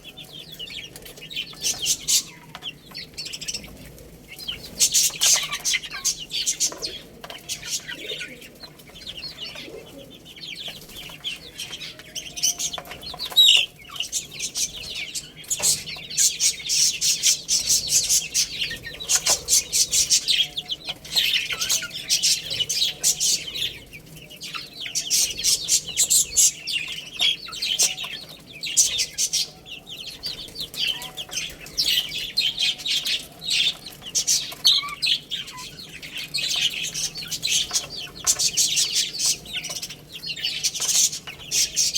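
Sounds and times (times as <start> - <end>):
baby chicks peeping: 0.0 - 41.9.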